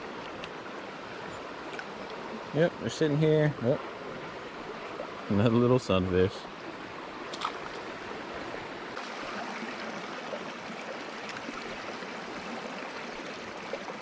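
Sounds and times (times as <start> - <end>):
river water flowing over rocks: 0.0 - 14.0.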